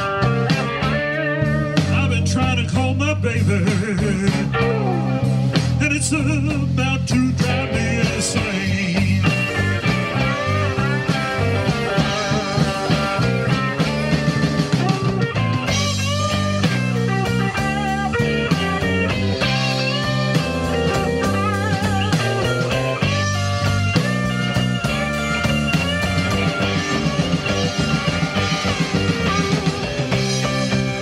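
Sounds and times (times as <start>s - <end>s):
electric guitar solo: 0.0s - 2.3s, 4.3s - 5.8s, 7.4s - 31.0s
bass guitar: 0.0s - 31.0s
drums: 0.0s - 31.0s.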